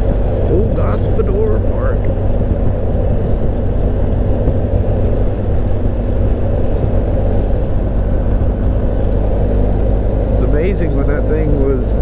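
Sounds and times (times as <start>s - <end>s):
motorcycle engine: 0.0s - 12.0s
road noise: 0.0s - 12.0s
wind rush over microphone: 0.0s - 12.0s.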